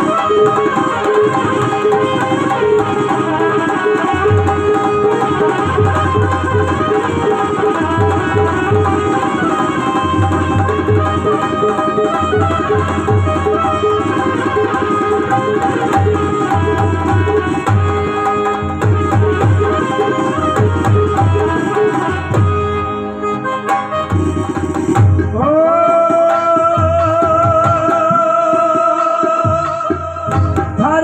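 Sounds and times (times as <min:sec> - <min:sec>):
hand drum beats: 0:00.0 - 0:22.7, 0:23.6 - 0:31.0
harmonium melody: 0:00.0 - 0:31.0.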